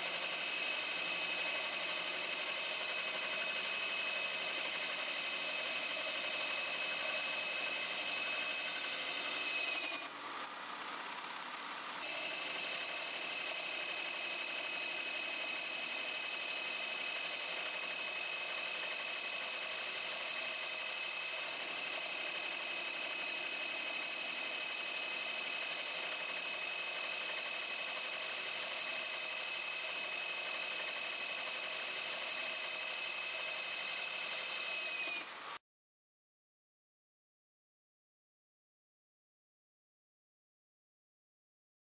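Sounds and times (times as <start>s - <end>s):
drill press mechanical hum: 0.0s - 35.6s
hole saw cutting metal whine: 0.0s - 35.6s.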